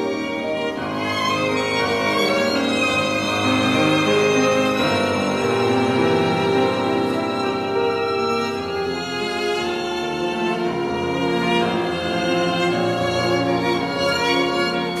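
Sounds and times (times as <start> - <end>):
orchestral concerto music: 0.0 - 15.0
violin and cello bowing: 0.0 - 15.0.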